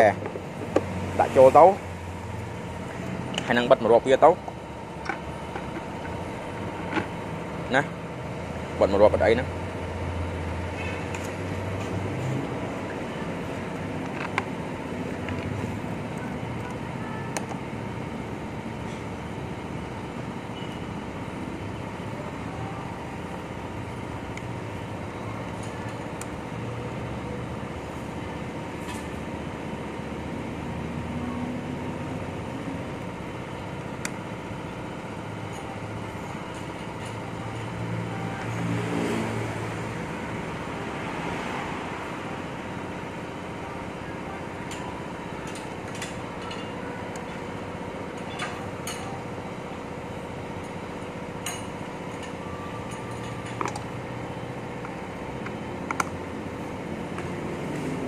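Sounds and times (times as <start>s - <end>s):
background traffic noise: 0.0s - 58.0s.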